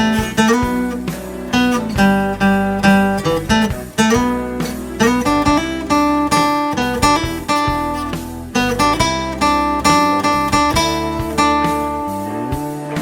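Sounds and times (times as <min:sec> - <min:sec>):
acoustic guitar picked melody: 0:00.0 - 0:13.0.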